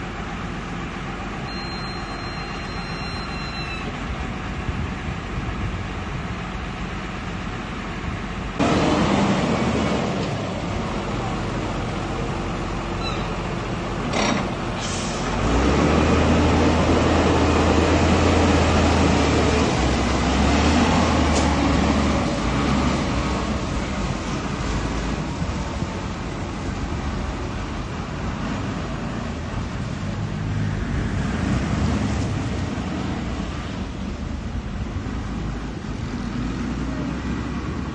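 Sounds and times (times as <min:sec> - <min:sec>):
wheel loader diesel engine: 0:00.0 - 0:37.9.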